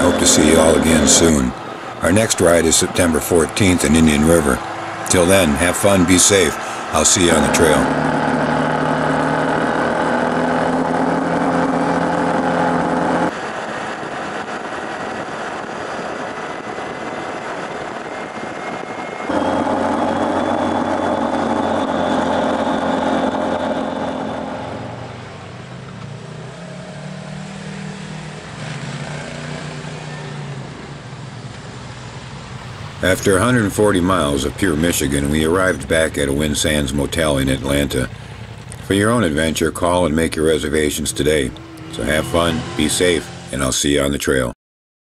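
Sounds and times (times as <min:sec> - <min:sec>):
quiet engine wavering in pitch: 0:00.0 - 0:13.4, 0:19.0 - 0:44.2
off-road vehicle engines: 0:00.0 - 0:44.5.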